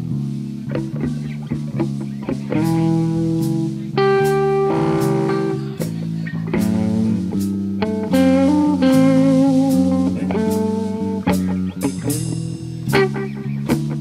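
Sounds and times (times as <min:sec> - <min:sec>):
drum kit with cymbals: 0:00.0 - 0:14.0
electric bass: 0:00.0 - 0:14.0
electric guitar lead: 0:00.0 - 0:14.0.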